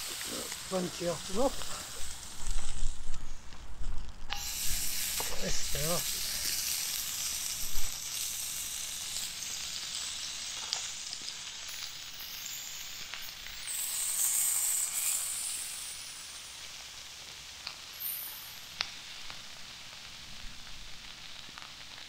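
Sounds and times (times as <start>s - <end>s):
meat sizzling in skillet: 0.0s - 22.0s.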